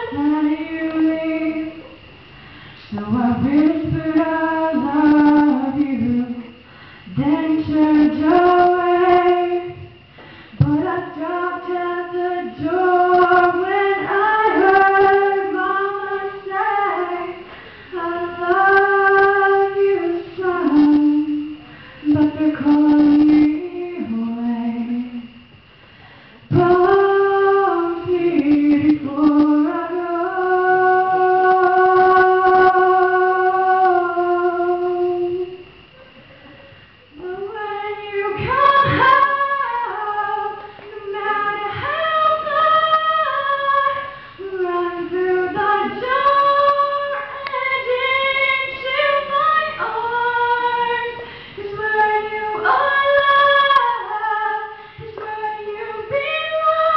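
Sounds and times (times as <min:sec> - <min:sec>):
woman singing into microphone: 0:00.0 - 0:25.6, 0:26.4 - 0:35.9, 0:37.0 - 0:56.9.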